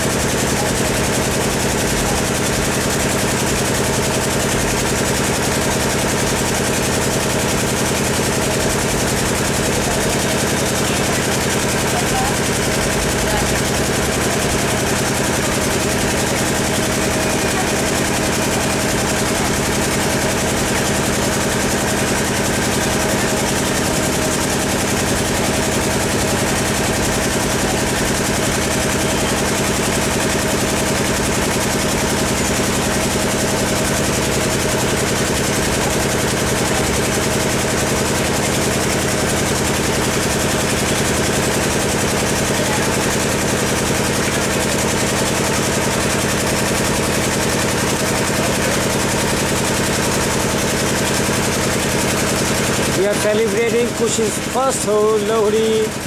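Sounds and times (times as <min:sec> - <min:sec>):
engine-like hum: 0:07.4 - 0:56.0.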